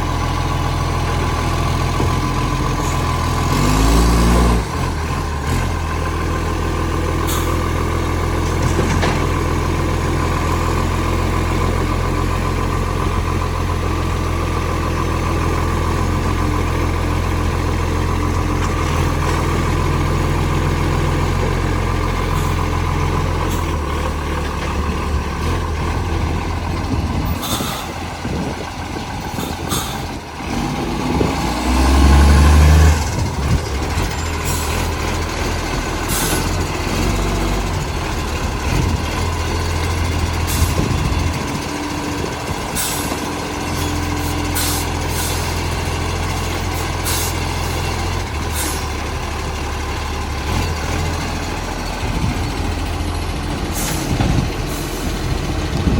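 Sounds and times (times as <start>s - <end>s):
diesel truck engine running: 0.0s - 55.9s.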